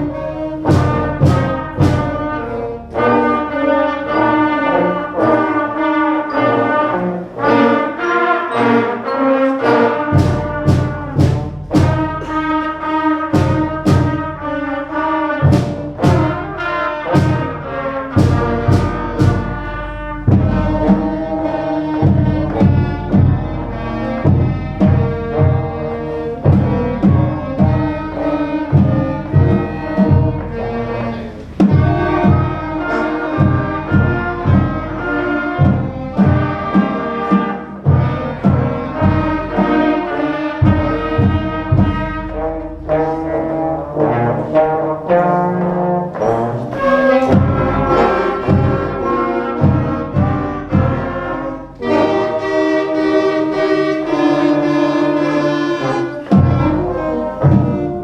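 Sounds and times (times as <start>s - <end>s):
steady drum beat: 0.0s - 3.4s, 10.0s - 43.7s, 46.0s - 53.9s, 55.8s - 58.0s
concert band playing: 0.0s - 58.0s.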